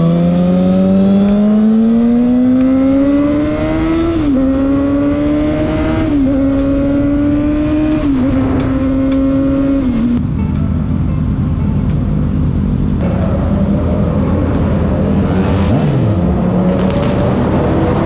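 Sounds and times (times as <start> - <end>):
motorcycle engine accelerating: 0.0 - 10.2, 12.9 - 18.0.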